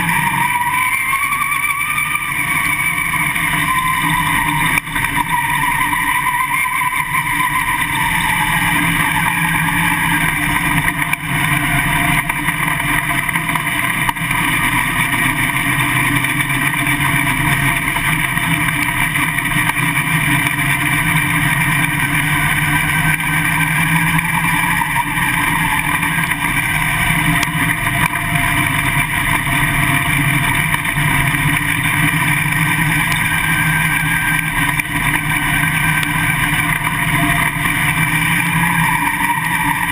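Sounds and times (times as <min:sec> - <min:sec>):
race car engine at low revs: 0:00.0 - 0:39.9.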